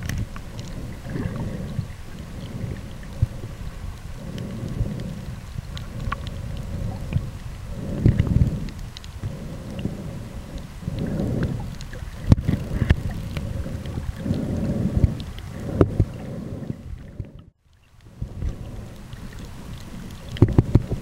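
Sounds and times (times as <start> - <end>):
underwater rumble of moving water: 0.0 - 21.0.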